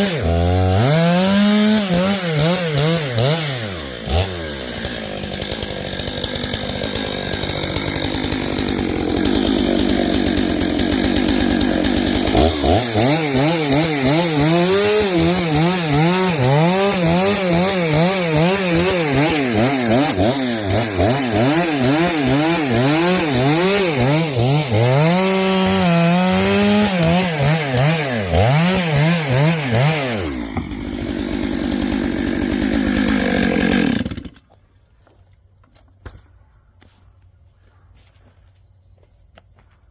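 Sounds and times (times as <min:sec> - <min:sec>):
chainsaw cutting wood: 0:00.0 - 0:34.6.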